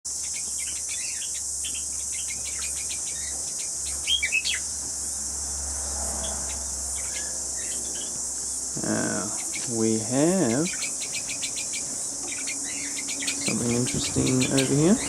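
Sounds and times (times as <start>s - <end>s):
high-pitched insect chorus: 0.1s - 15.0s
small birds chirping: 0.1s - 15.0s.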